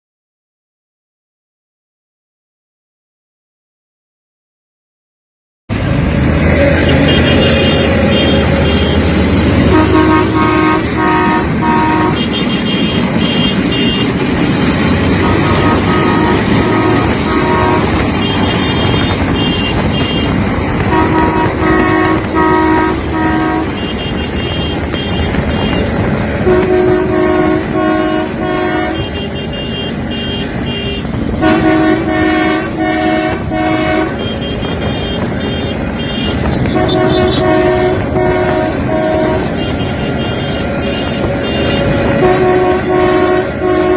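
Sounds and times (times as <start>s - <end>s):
moving train rumble: 5.7s - 43.9s
train horn short toots: 6.4s - 14.2s, 15.1s - 43.9s.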